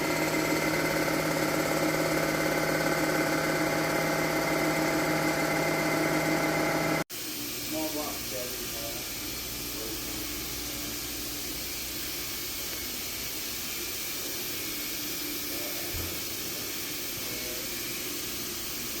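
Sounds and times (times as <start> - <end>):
milling machine hissing: 0.0 - 19.0.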